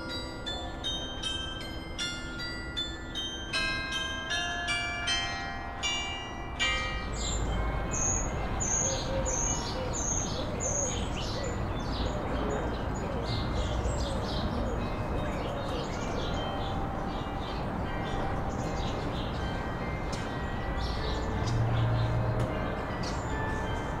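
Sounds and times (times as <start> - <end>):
bell chime: 0.0 - 12.0, 13.3 - 24.0
birds chirping: 4.3 - 24.0.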